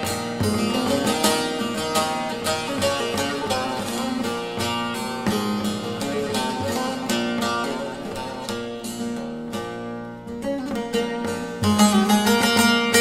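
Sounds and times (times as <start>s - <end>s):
long-necked lute solo: 0.0s - 13.0s.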